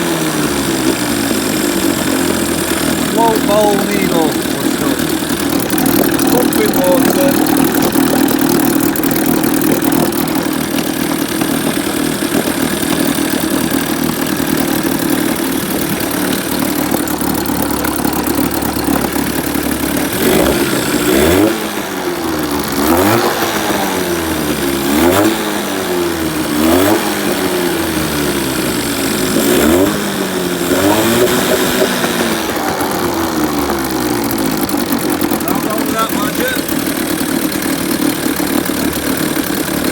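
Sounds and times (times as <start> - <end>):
outboard motor idling and revving: 0.0 - 39.9.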